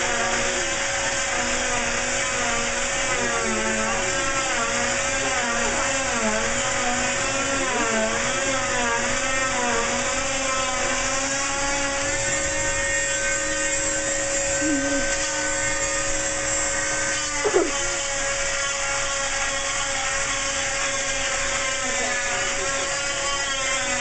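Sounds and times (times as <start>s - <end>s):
cast saw whining: 0.0s - 24.0s.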